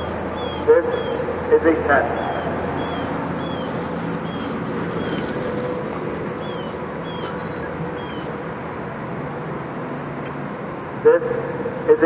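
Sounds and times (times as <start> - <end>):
rumble of vehicle noise: 0.0 - 12.0.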